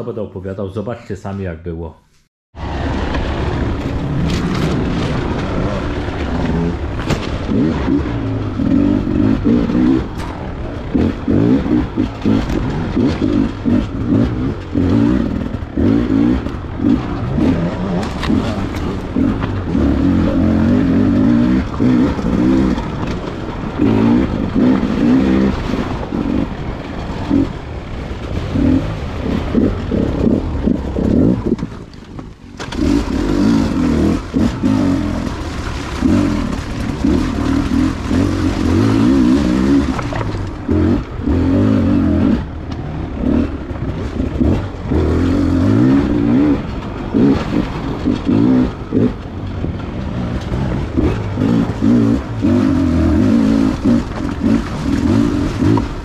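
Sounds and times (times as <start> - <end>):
motorcycle engine revving: 2.6 - 56.0.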